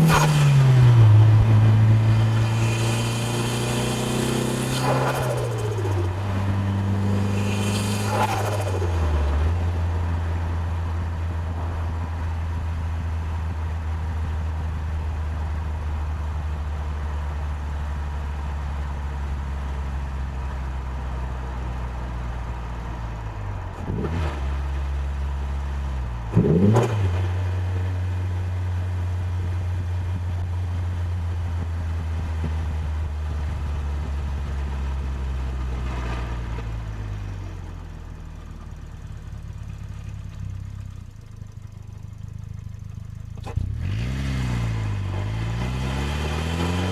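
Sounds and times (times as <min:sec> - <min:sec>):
car engine running and revving: 0:00.0 - 0:46.9.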